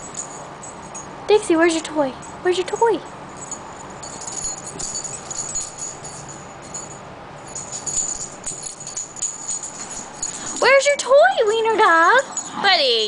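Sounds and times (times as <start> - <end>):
dog collar tags jingling: 0.0 - 13.0.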